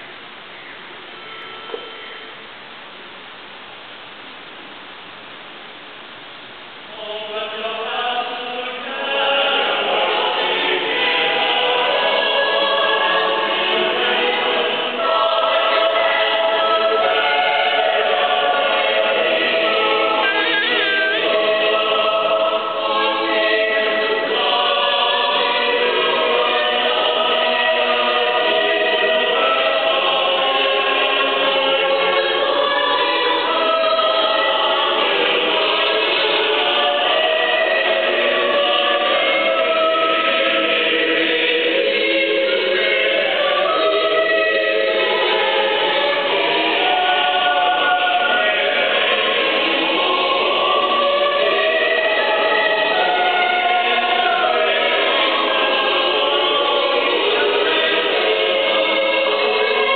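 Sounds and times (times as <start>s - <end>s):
mixed choir singing: 6.9s - 59.9s.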